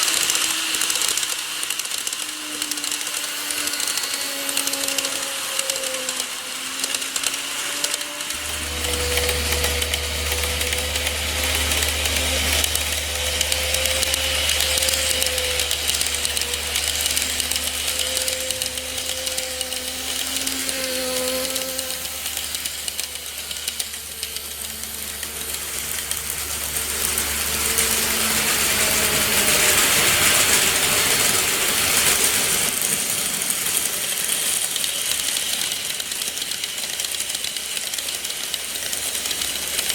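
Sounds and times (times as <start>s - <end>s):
model train motor whine: 0.0s - 39.9s
wheels rattling on rails: 0.0s - 39.9s
low hum: 0.2s - 32.7s.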